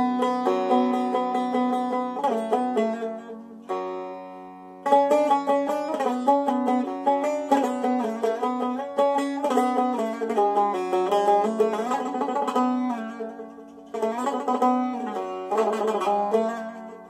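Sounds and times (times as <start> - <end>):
plucked lute notes: 0.0 - 17.0.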